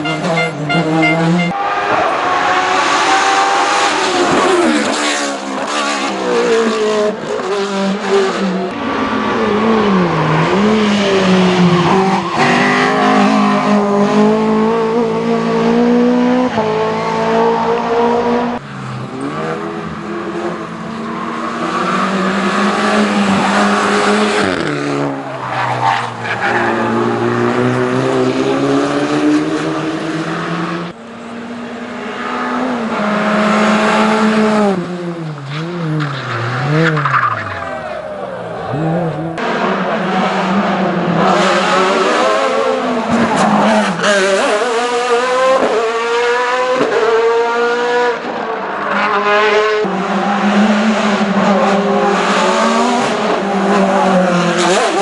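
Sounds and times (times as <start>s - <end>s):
racing car engines at full throttle: 0.0s - 55.0s.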